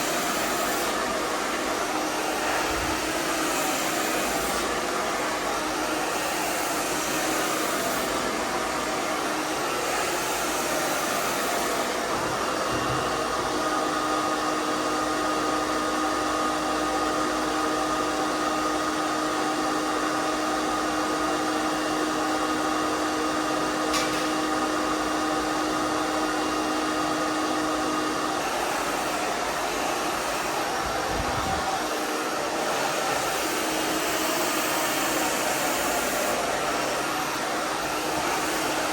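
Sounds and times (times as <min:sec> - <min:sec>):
hairdryer blowing air: 0:00.0 - 0:38.9.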